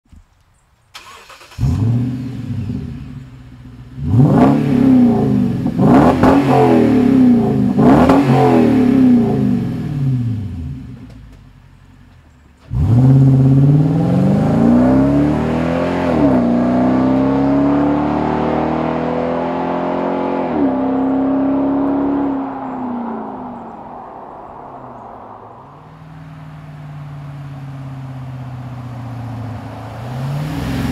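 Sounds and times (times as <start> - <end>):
truck engine revving: 4.0 - 11.0, 12.7 - 30.9.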